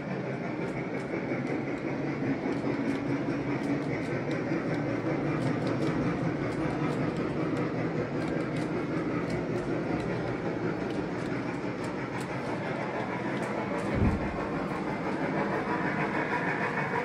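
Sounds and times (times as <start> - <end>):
model train wheels rumbling on rails: 0.0 - 17.0.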